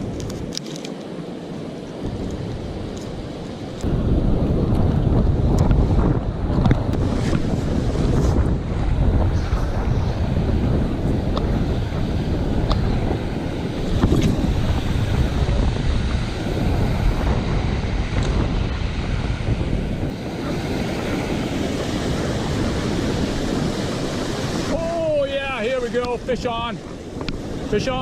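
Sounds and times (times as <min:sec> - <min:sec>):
wind buffeting microphone: 0:00.0 - 0:00.6, 0:01.8 - 0:28.0
surf breaking on beach: 0:02.0 - 0:28.0.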